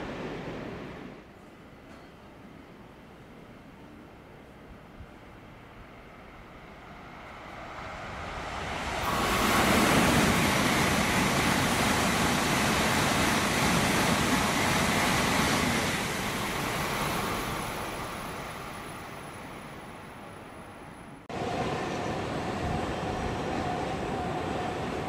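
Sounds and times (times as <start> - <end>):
train passing at high speed: 0.0 - 1.4, 3.0 - 25.0.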